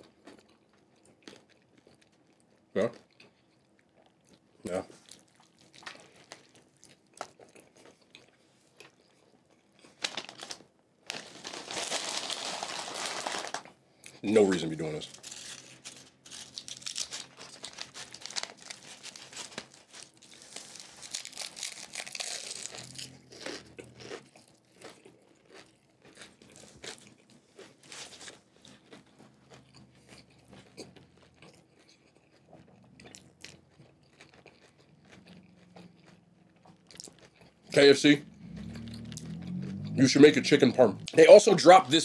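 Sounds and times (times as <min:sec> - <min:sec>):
person chewing crunchy food: 0:00.0 - 0:41.2.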